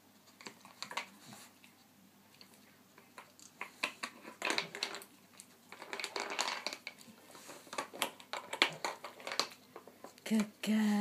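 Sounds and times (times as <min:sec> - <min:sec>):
dog working plastic puzzle toy: 0:00.2 - 0:10.7.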